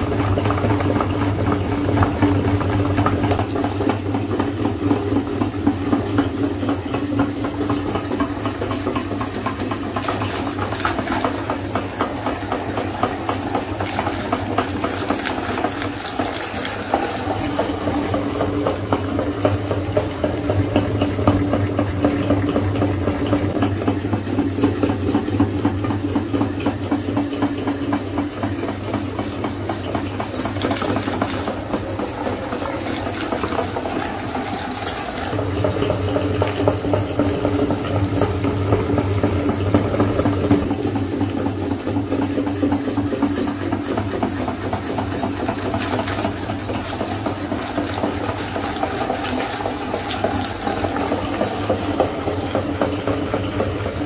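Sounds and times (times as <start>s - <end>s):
meat grinder humming: 0.0s - 54.0s.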